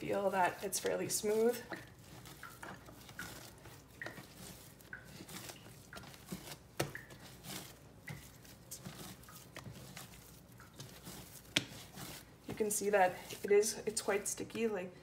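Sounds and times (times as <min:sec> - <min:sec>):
dough slapping on counter: 0:00.1 - 0:13.5.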